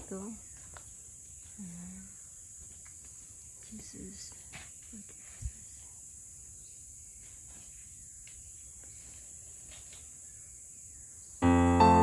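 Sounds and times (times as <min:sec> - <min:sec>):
faint outdoor ambience: 0:00.0 - 0:12.0
high-pitched insect chorus: 0:00.0 - 0:12.0.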